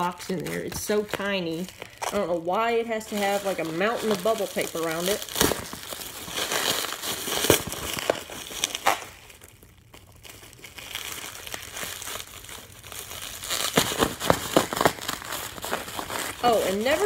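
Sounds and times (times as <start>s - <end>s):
plastic packaging crinkling: 0.0s - 17.0s
bubble wrap snaps: 3.0s - 17.0s.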